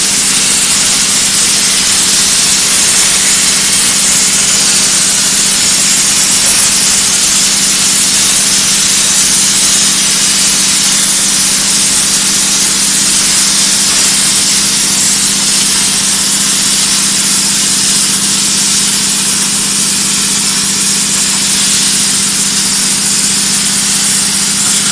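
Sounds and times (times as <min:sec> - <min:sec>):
plasma torch hissing: 0:00.0 - 0:24.9.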